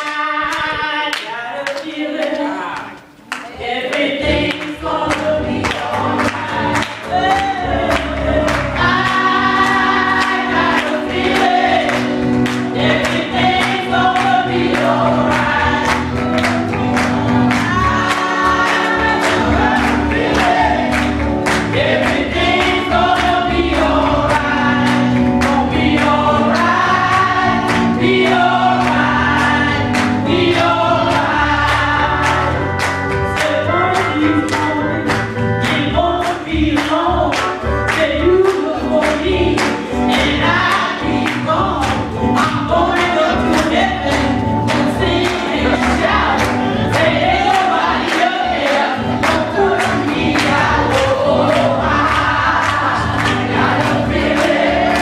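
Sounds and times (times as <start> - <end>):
group singing gospel in harmony: 0.0 - 55.0
bass accompaniment with steady beat: 4.2 - 55.0.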